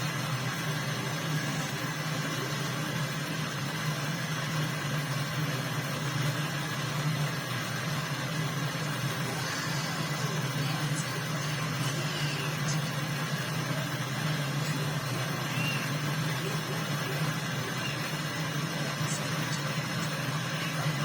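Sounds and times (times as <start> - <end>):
electric motor humming: 0.0 - 21.0.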